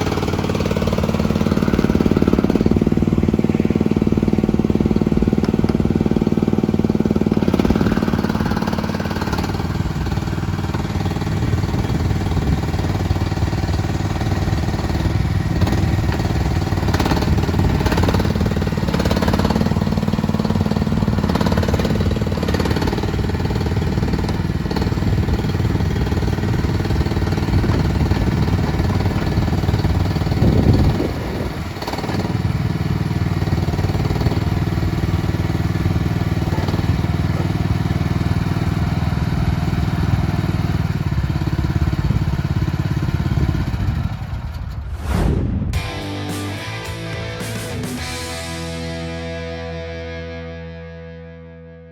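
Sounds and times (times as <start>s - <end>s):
excavator engine running: 0.0s - 50.5s.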